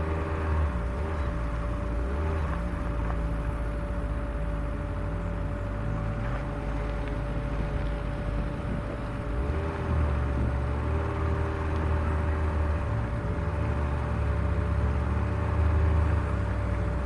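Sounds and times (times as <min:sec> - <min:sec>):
vehicle engine running at low revs: 0:00.0 - 0:17.0.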